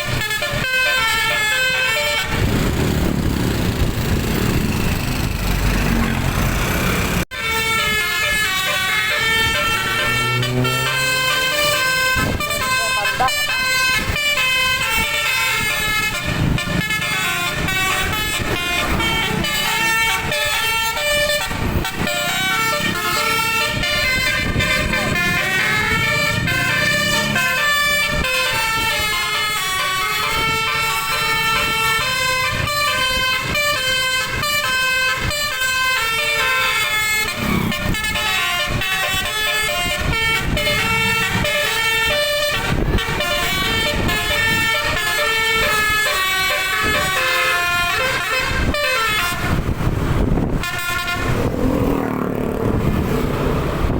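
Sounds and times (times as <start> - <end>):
bus horn playing a melody: 0.0 - 2.6, 7.3 - 53.2.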